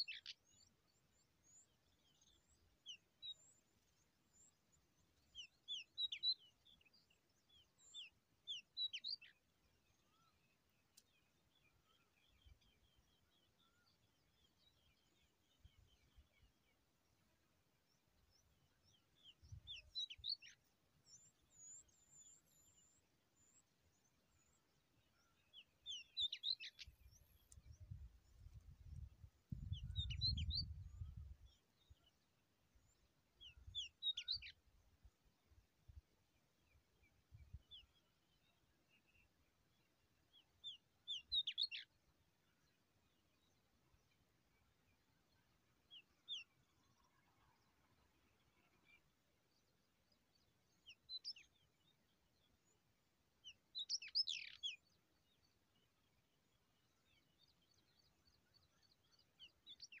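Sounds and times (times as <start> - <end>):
bird chirping: 0.0 - 35.6, 36.2 - 60.0.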